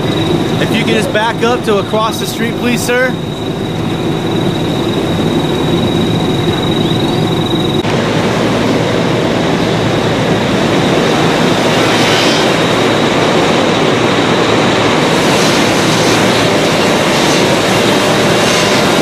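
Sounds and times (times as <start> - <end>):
fire engine running: 0.0 - 19.0.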